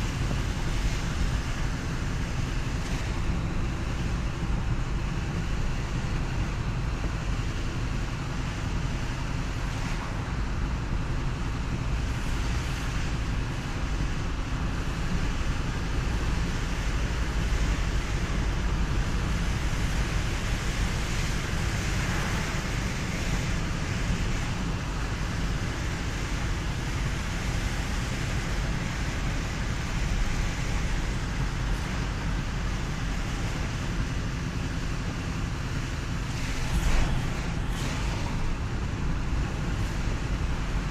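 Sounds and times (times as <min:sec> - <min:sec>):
car road and engine rumble: 0:00.0 - 0:40.9
rain and tyre spray hiss: 0:00.0 - 0:40.9.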